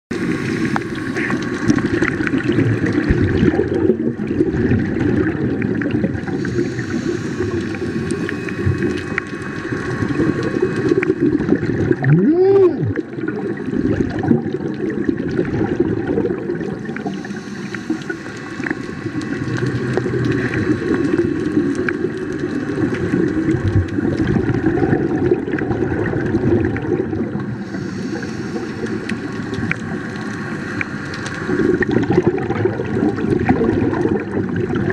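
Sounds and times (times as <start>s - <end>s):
underwater bubbling and gurgling: 0.1s - 34.9s.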